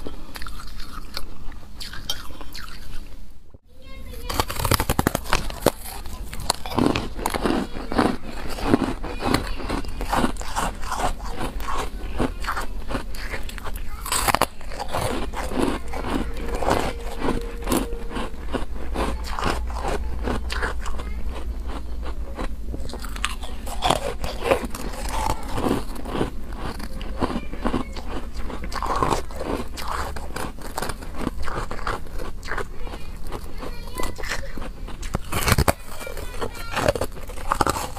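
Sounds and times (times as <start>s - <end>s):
crunchy chewing: 0.0s - 3.2s, 4.1s - 37.9s.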